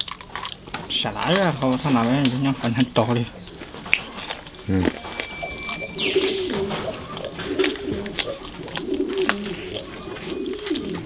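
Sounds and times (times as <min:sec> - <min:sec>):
high insect drone: 0:00.0 - 0:11.0
dove cooing: 0:00.6 - 0:11.0.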